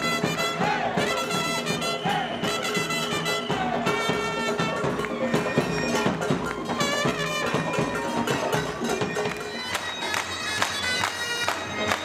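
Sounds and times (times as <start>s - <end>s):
bagpipe folk music: 0.0s - 12.0s.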